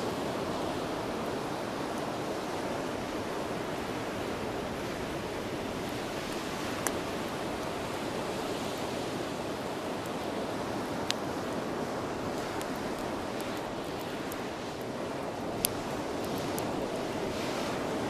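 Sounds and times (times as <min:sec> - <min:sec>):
bonfire burning: 0:00.0 - 0:18.0
fire crackling pop: 0:00.0 - 0:18.0
surf rushing: 0:00.0 - 0:18.0.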